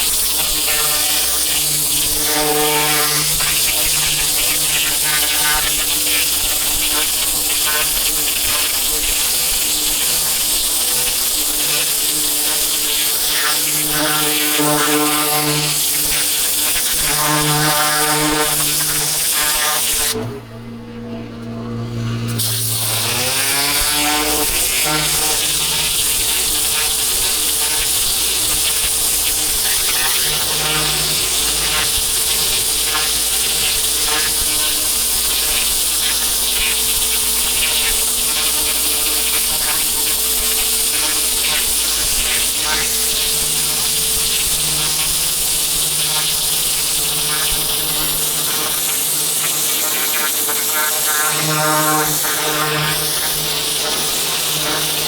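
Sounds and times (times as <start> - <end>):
high-pressure water jet hissing: 0.0 - 20.2, 22.3 - 55.0
pressure washer engine buzzing: 0.0 - 55.0.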